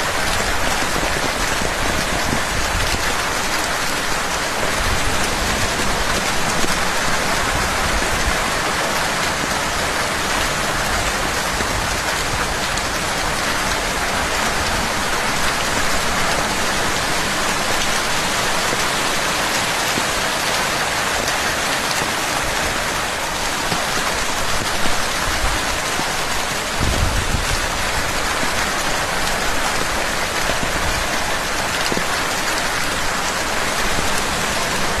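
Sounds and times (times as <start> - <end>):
rain pattering on surfaces: 0.0 - 35.0.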